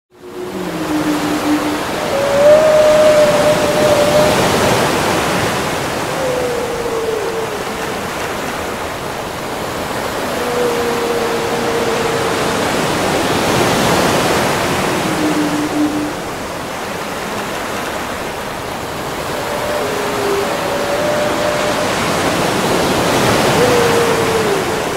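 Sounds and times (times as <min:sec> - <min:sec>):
ocean water rushing: 0:00.1 - 0:24.9
whale calls: 0:00.1 - 0:24.9.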